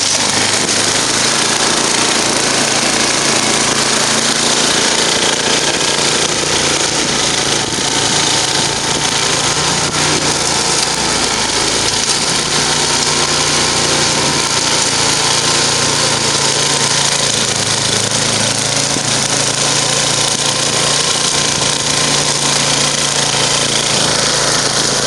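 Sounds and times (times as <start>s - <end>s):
snow blower engine running: 0.0s - 25.0s.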